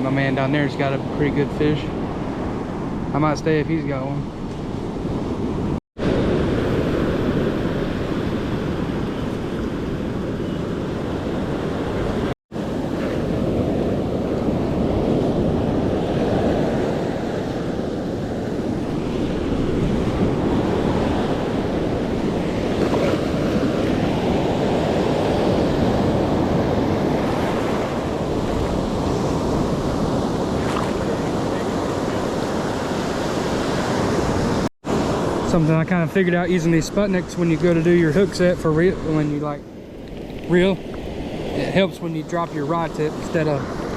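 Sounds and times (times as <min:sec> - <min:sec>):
wind buffeting microphone: 0:00.0 - 0:35.6
ocean surf breaking: 0:00.0 - 0:43.9.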